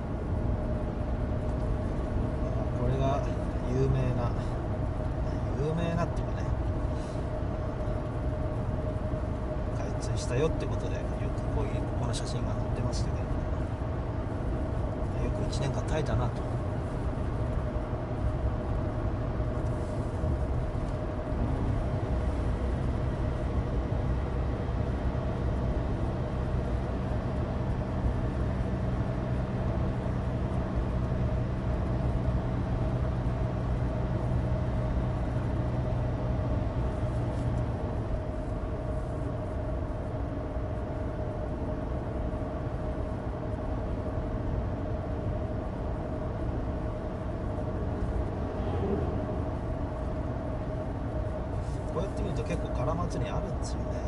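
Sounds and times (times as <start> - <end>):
car engine running: 0.0 - 54.0
tyres droning on asphalt: 0.0 - 54.0.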